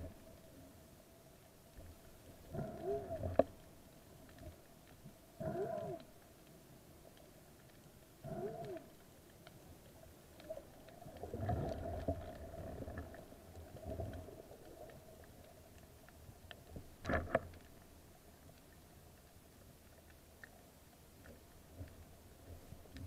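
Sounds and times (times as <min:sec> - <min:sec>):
muffled underwater water rumbling: 0:00.0 - 0:20.0
faint steady hum: 0:00.0 - 0:23.0.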